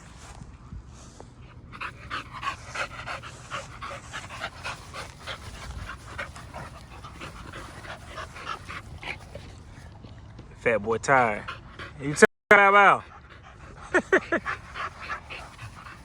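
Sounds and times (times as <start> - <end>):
dog panting rapidly: 1.7 - 10.0, 11.2 - 16.0.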